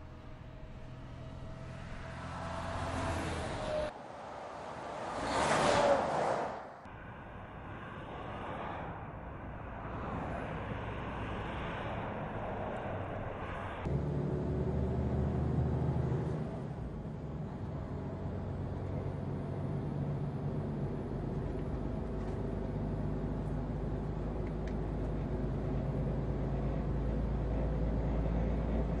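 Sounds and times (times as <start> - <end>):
truck diesel engine droning: 0.0 - 5.0, 6.9 - 29.0.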